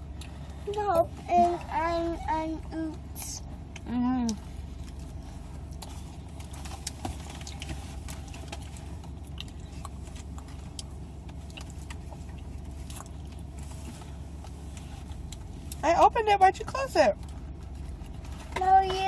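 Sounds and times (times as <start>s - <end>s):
car cabin engine hum: 0.0s - 19.0s.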